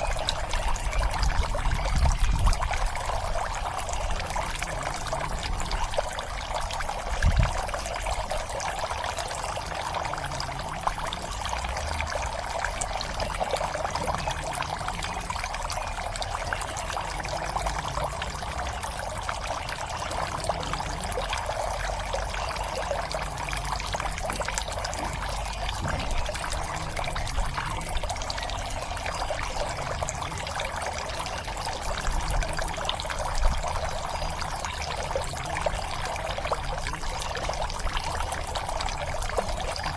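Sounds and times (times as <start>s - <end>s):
water pouring into pond: 0.0s - 39.9s.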